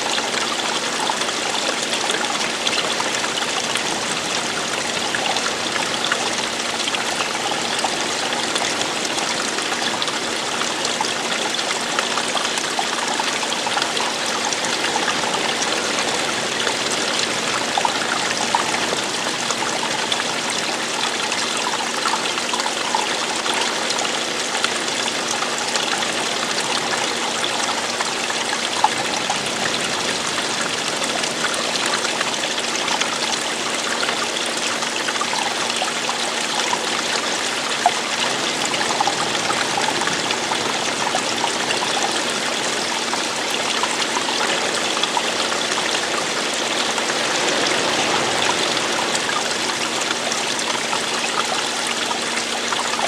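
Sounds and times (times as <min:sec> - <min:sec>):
water running and trickling: 0:00.0 - 0:53.0.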